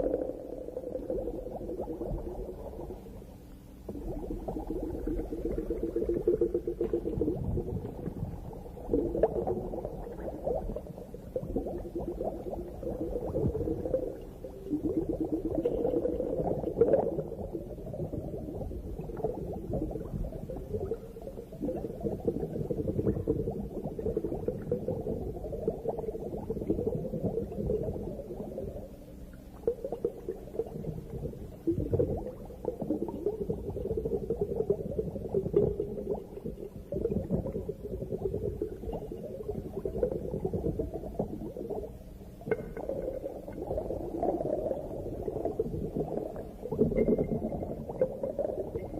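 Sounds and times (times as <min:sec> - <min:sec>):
underwater regulator bubbling: 0:00.0 - 0:48.9.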